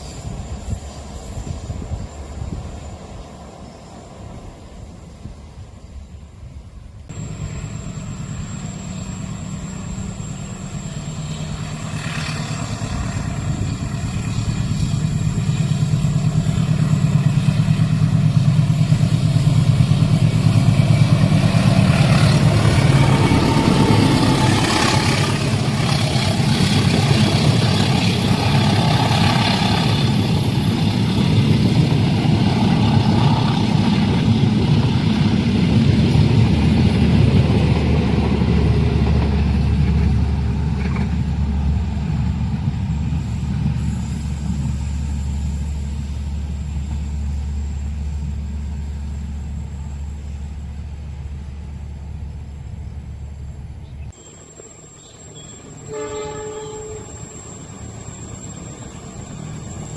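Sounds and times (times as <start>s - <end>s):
train passing rumble: 0.0s - 59.9s.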